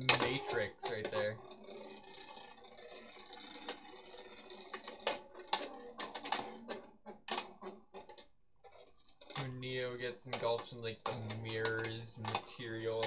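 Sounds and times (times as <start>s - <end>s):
tops clacking together: 0.0s - 8.3s, 10.2s - 13.0s
spinning tops whirring: 0.0s - 13.0s.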